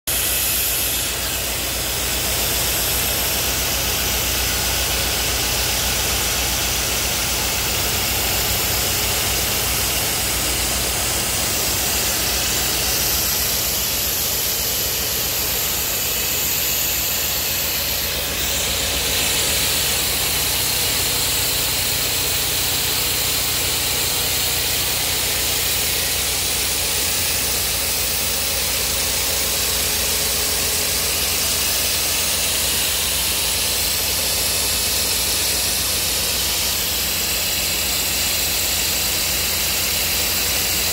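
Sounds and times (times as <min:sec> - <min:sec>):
machine cutting steel: 0:00.1 - 0:40.9.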